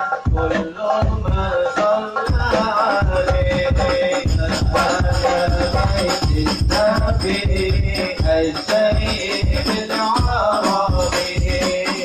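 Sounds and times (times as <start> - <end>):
frame drums and bass drum rhythm: 0.0 - 12.0
person singing: 0.0 - 12.0.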